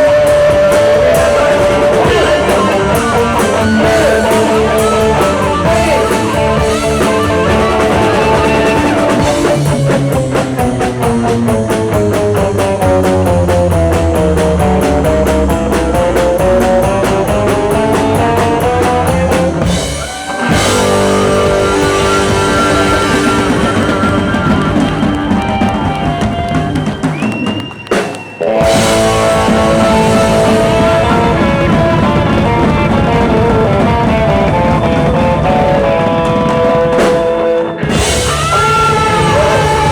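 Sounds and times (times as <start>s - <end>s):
rock music with guitar and drums: 0.0s - 39.9s.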